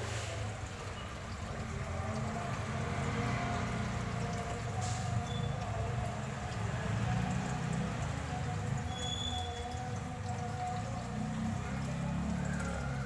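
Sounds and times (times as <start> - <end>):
water bubbling and trickling: 0.0 - 13.0.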